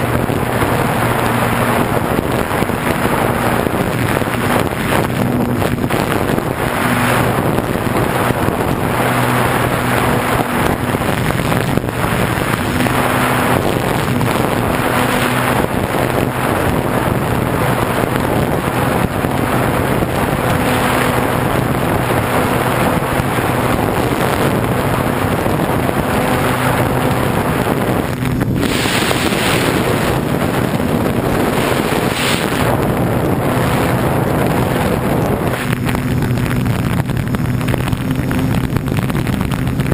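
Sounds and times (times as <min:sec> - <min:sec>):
model airplane motor and propeller: 0:00.0 - 0:39.9
wind rush on microphone: 0:00.0 - 0:39.9.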